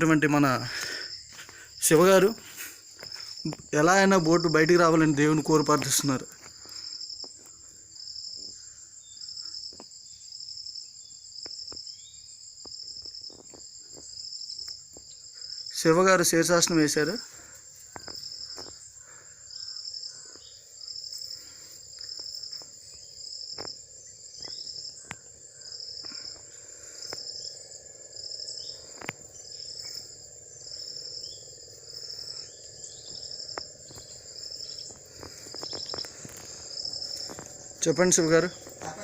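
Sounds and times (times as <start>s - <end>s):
insect pulsed call: 0.0s - 39.0s
insect steady high trill: 0.0s - 39.0s.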